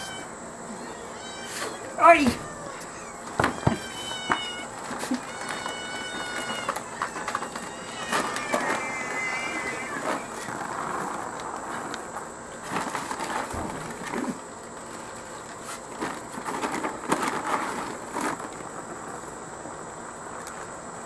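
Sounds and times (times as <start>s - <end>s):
high drone of insects: 0.0s - 21.0s.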